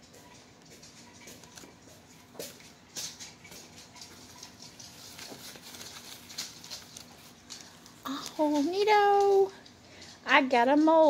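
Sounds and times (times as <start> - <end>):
plastic bags rustling and crinkling: 1.4 - 10.3.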